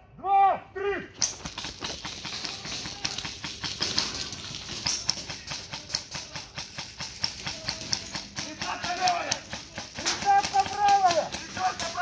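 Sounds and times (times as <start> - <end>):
airsoft rifles firing: 1.2 - 12.0.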